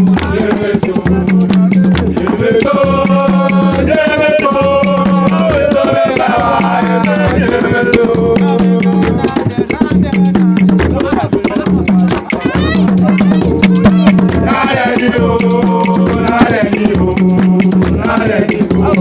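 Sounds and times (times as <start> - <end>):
background music with drum beat: 0.0 - 19.0.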